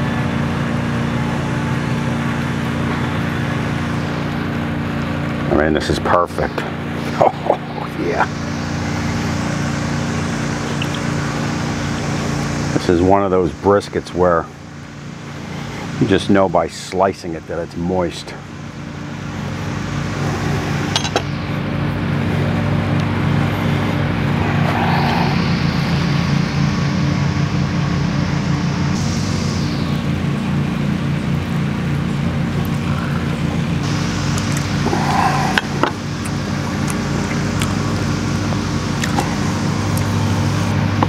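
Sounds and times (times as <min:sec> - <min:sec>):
lawnmower engine running: 0:00.0 - 0:41.0.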